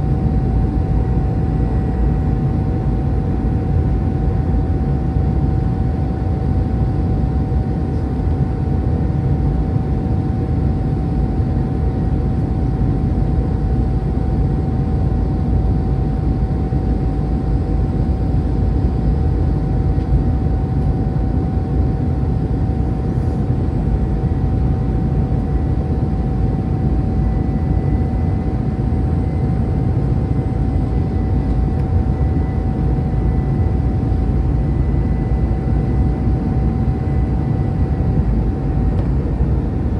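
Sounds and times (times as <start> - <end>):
jet engines and airflow roar: 0.0 - 39.9.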